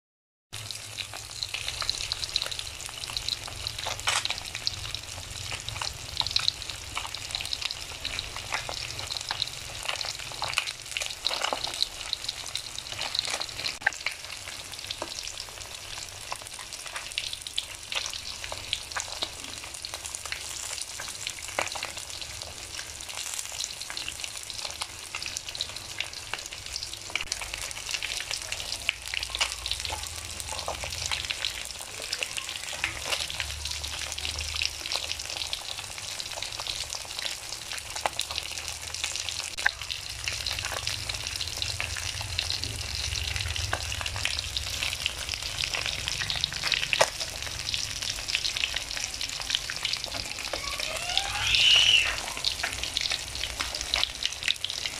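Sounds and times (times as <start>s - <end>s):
fish frying in hot oil: 0.6s - 54.9s.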